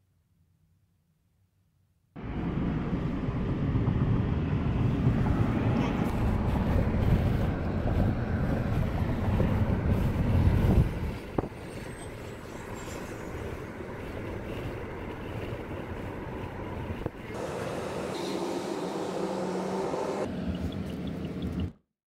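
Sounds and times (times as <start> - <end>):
moving vehicle rumbling: 2.2 - 21.8.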